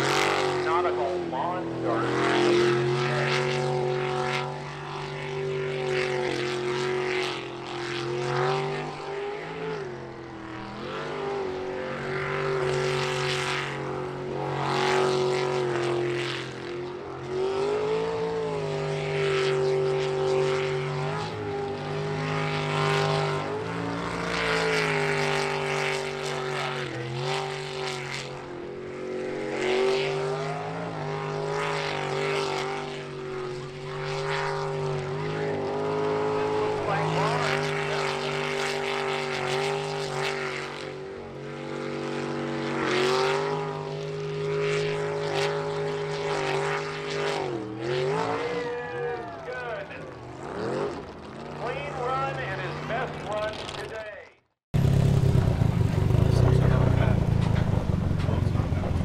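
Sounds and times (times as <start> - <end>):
boat engine at high revs: 0.0 - 59.0.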